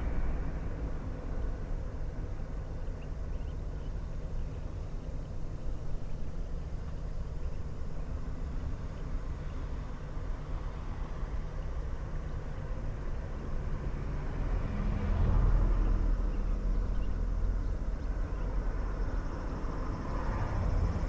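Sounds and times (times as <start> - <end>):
passing vehicle rumble: 0.0 - 4.5, 8.0 - 21.0.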